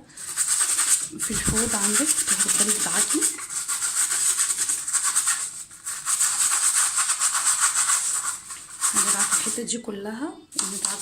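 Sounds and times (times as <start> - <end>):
brush scrubbing plastic mesh: 0.1 - 9.6, 10.6 - 11.0.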